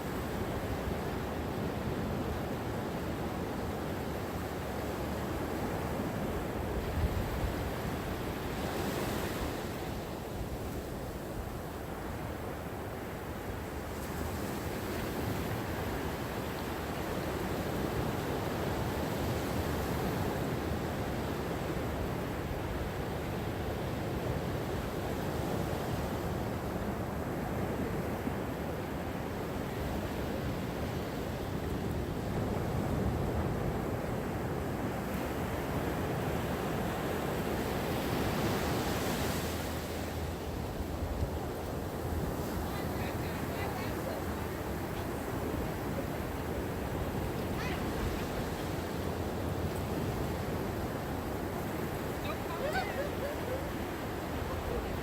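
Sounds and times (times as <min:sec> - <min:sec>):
ocean waves washing on shore: 0:00.0 - 0:55.0.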